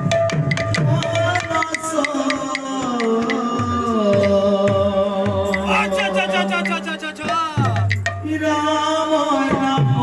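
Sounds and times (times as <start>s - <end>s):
person singing into microphone: 0.9s - 10.0s.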